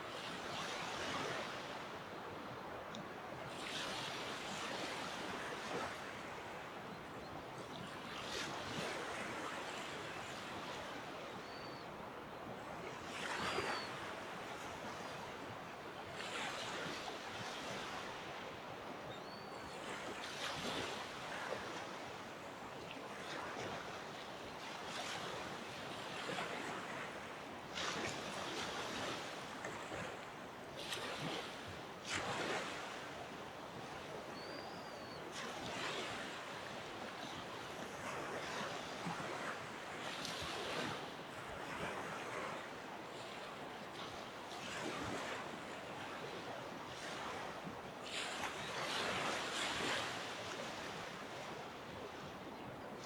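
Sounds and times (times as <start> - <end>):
small waves washing onto beach: 0.0 - 19.1, 19.7 - 34.4, 35.2 - 53.0.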